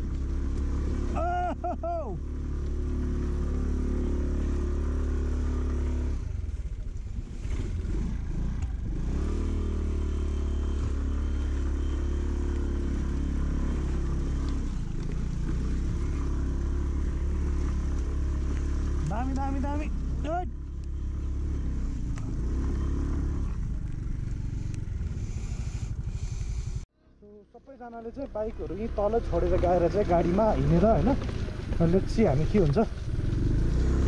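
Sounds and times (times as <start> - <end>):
constant low rumble: 0.0 - 9.1, 10.2 - 33.8
clattering over ruts: 0.0 - 25.2, 27.8 - 34.0
scooter engine running: 0.0 - 26.8, 28.2 - 34.0.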